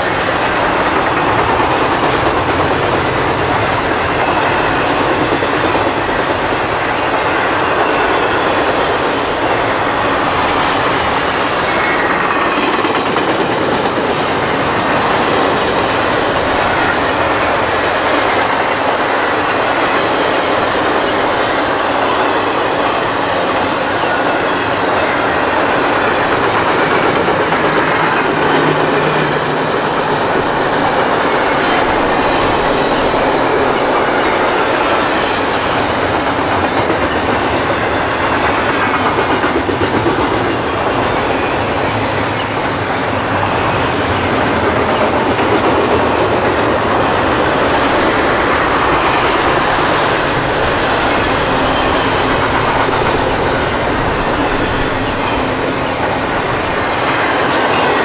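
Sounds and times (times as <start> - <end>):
freight train rumbling and rattling: 0.0 - 58.0.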